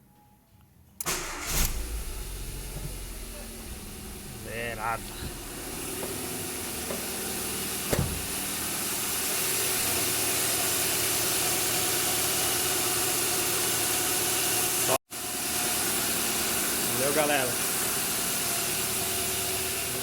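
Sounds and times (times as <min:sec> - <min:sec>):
car engine idling: 0:01.1 - 0:20.0.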